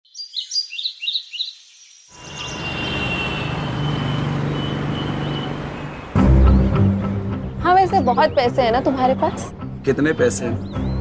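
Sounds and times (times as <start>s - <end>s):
bird chirping: 0.0s - 11.0s
city road traffic rumble: 2.2s - 11.0s.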